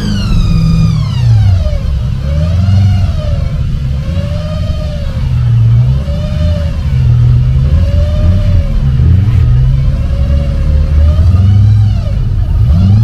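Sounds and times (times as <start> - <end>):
car engine revving: 0.0 - 13.0
heavy low rumble: 0.0 - 13.0.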